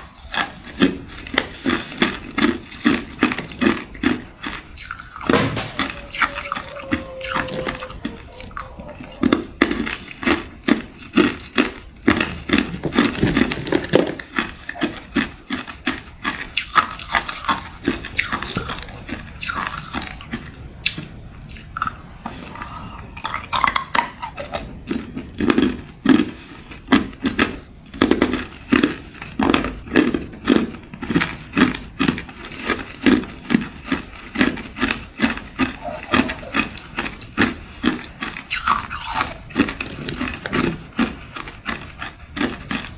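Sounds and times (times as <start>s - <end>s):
ice cubes crunched between teeth: 0.0s - 42.9s.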